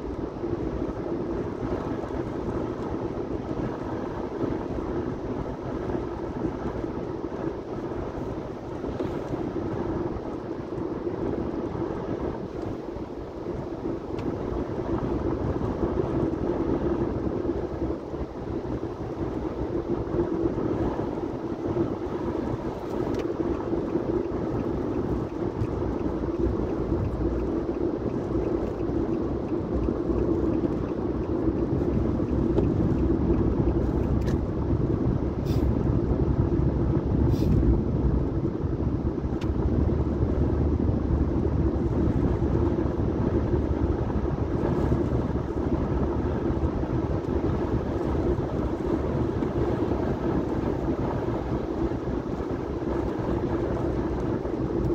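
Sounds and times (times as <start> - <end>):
car cabin road and engine noise: 0.0 - 54.9
tyres on wet road: 0.0 - 54.9.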